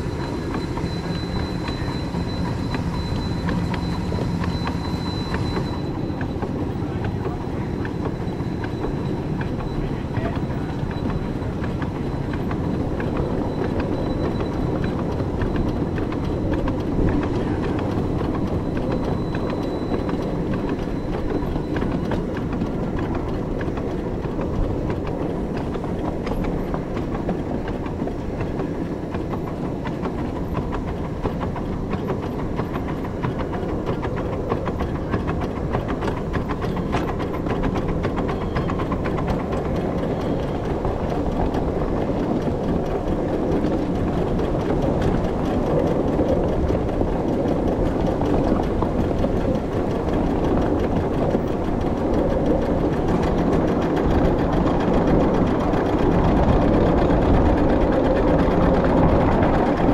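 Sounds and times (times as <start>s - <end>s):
miniature train rumbling on track: 0.0s - 59.9s
wheels clicking and knocking: 0.0s - 59.9s.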